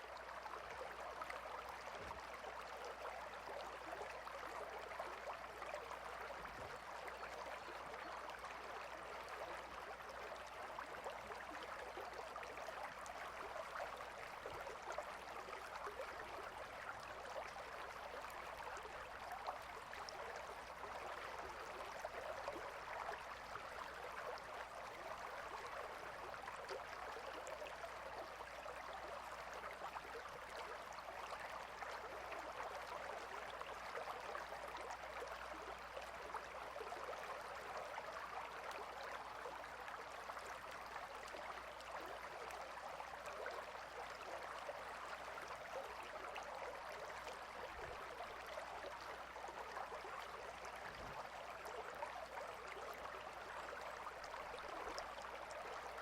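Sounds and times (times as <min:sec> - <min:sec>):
gentle river babbling: 0:00.0 - 0:56.0.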